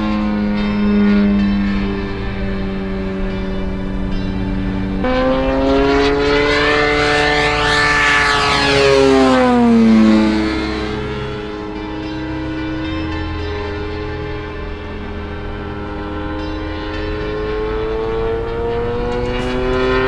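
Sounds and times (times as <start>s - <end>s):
model plane engine: 0.0s - 20.0s.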